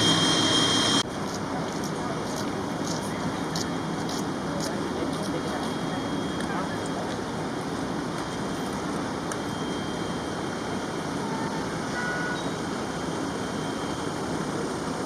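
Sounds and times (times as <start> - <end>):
emergency vehicle engines idling: 0.0 - 15.0.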